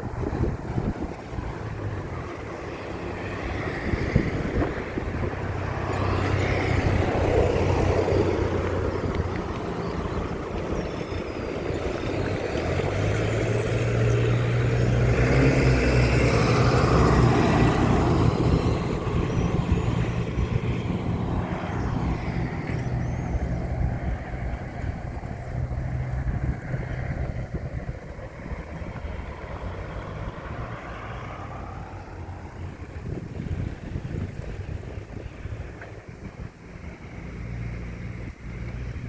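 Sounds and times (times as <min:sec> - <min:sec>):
road and wind noise: 0:00.0 - 0:39.0
vehicle engine running: 0:00.0 - 0:39.0.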